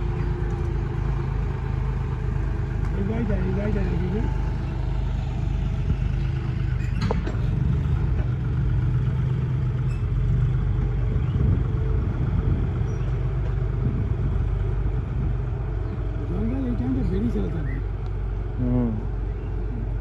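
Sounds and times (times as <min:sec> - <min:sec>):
tractor engines droning: 0:00.0 - 0:20.0.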